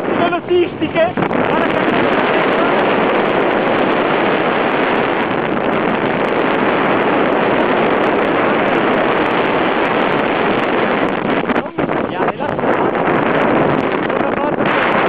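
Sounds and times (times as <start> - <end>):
wind over microphone: 0.0 - 15.0.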